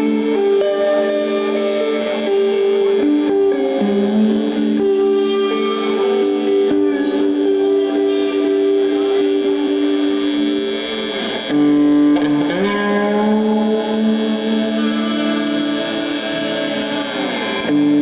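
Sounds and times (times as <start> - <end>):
electric guitars ringing chords: 0.0 - 18.0.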